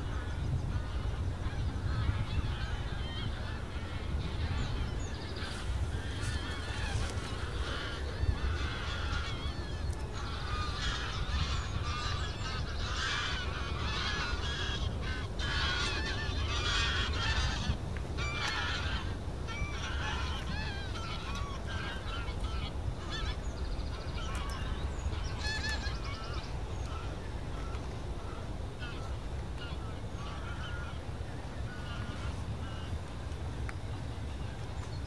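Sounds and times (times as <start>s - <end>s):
geese honking in flight: 0.0s - 34.9s
steady low rumble: 0.0s - 35.0s.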